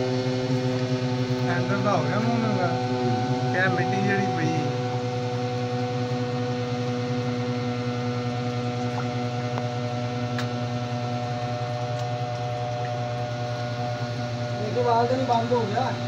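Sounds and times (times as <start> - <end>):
machine motor humming: 0.0 - 16.0.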